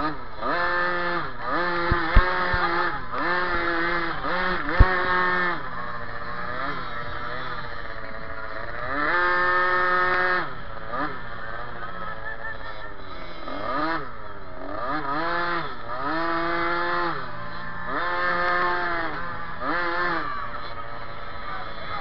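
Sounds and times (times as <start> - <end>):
off-road motorcycle engine revving: 0.0 - 22.0.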